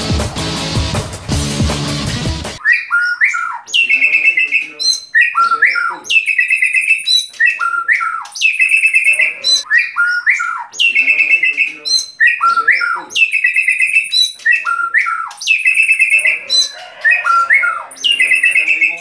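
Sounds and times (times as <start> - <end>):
bird whistle and buzzy call: 2.6 - 19.0.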